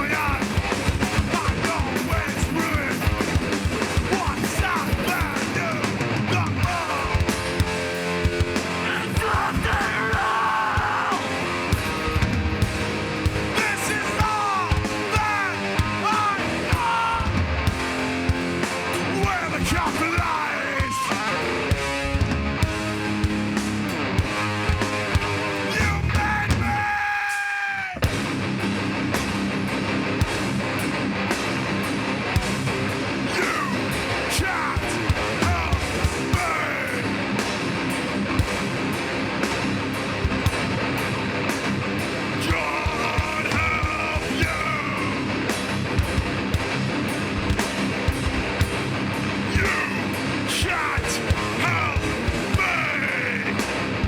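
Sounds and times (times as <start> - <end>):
hardcore band playing live: 0.0 - 54.0.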